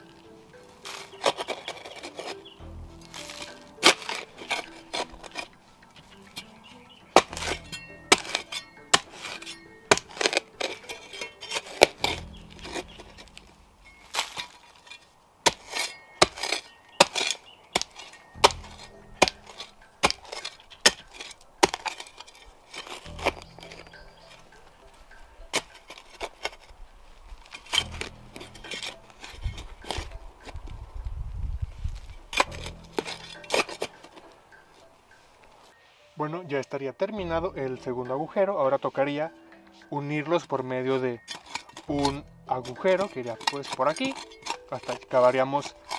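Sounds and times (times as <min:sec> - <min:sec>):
shovel striking earth and stones: 0:00.0 - 0:30.8, 0:31.7 - 0:34.9, 0:39.8 - 0:45.9
background music: 0:00.0 - 0:45.9.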